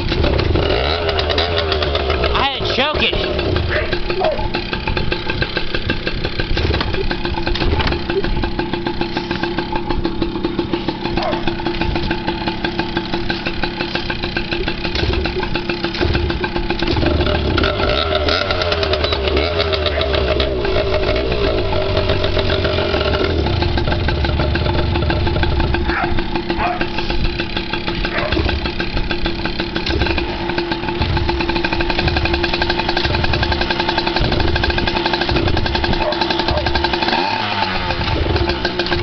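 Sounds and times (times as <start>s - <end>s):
dirt bike engine idling unevenly: 0.0s - 39.0s.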